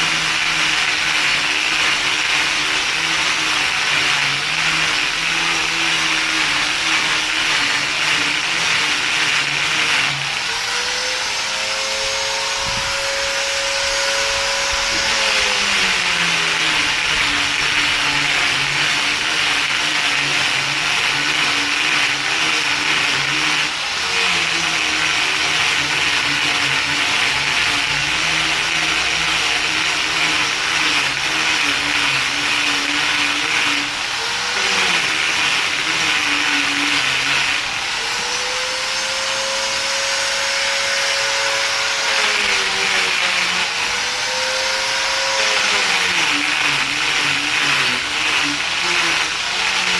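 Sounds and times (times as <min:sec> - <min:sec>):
electric motor running: 0:00.0 - 0:49.9.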